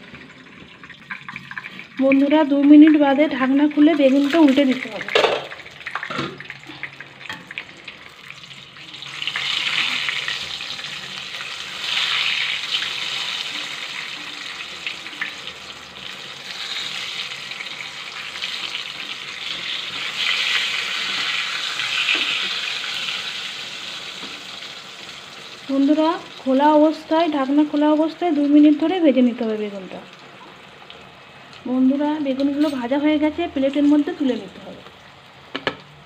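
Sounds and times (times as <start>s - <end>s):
slices sizzling in hot oil: 0.0s - 34.7s.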